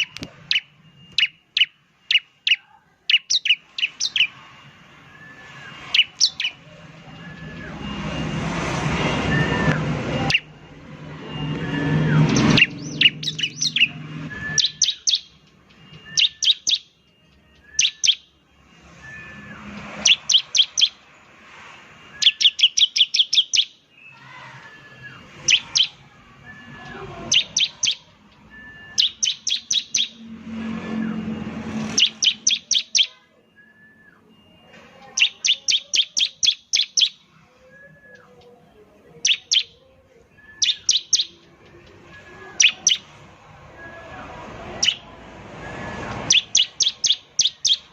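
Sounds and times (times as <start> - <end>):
bird singing rapid high notes: 0.0 - 47.9.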